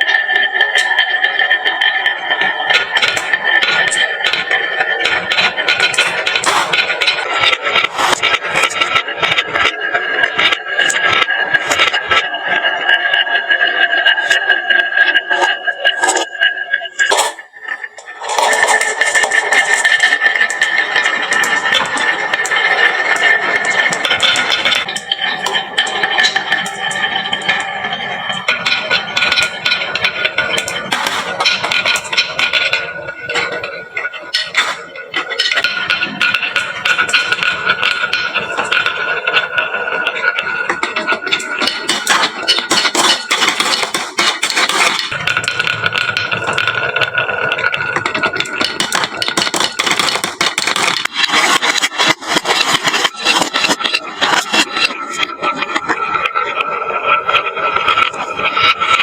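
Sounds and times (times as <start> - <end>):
marbles rolling down wooden run: 0.0 - 59.0.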